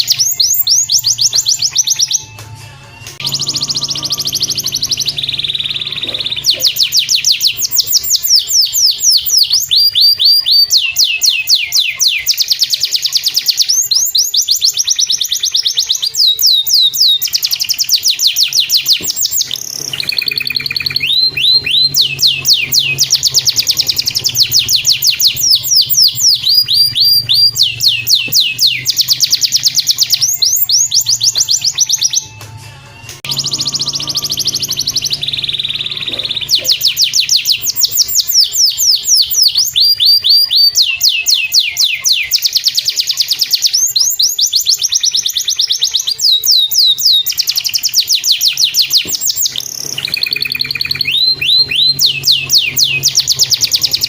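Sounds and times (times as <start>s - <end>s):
canary singing trills: 0.0s - 54.0s
low background music: 0.0s - 54.0s.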